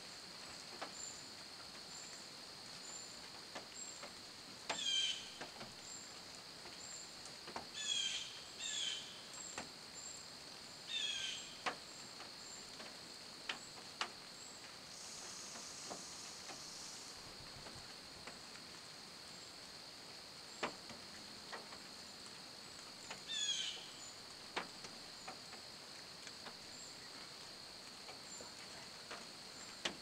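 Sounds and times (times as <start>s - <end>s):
high insect drone: 0.1s - 30.0s.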